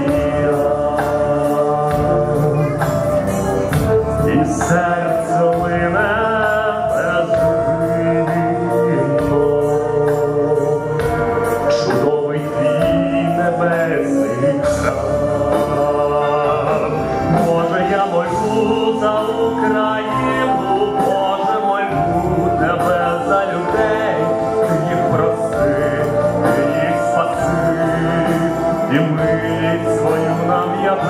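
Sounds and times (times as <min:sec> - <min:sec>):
backing music: 0:00.0 - 0:31.0
man singing into microphone: 0:00.0 - 0:31.0.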